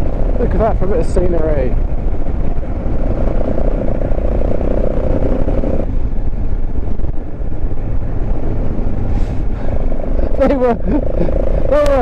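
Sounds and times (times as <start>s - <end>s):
motorcycle engine: 0.0s - 12.0s
wind rushing over microphone: 0.0s - 12.0s.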